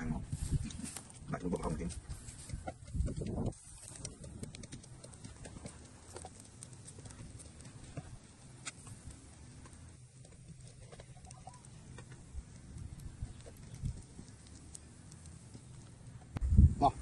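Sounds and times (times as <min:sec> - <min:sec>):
fish crackling on a grill: 0:00.0 - 0:17.0
low steady rumble: 0:00.0 - 0:17.0.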